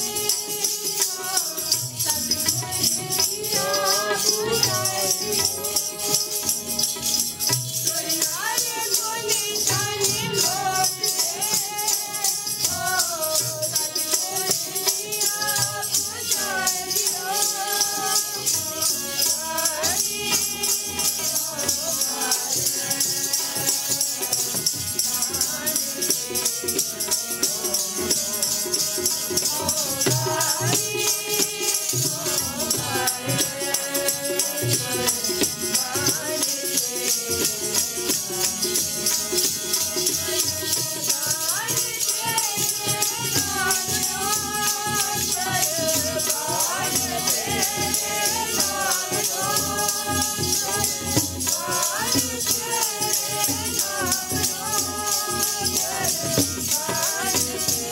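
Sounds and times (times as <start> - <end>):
voices singing a hymn: 0.0 - 57.9.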